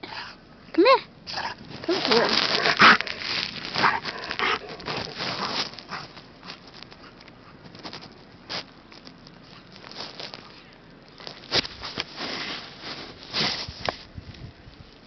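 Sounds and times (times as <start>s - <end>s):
footsteps crunching through snow: 1.4s - 10.6s, 11.2s - 14.2s.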